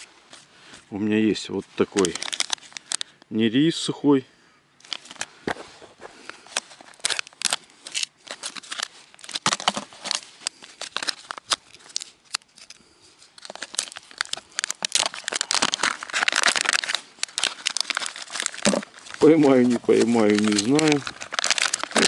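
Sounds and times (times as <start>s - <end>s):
packaging crinkling and tearing: 1.8s - 3.2s, 4.8s - 5.5s, 6.2s - 22.0s.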